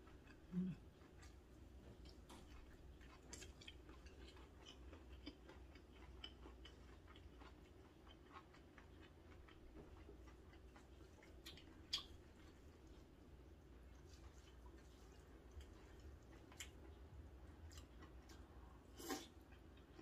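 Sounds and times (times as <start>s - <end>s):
faint close chewing: 0.0s - 20.0s.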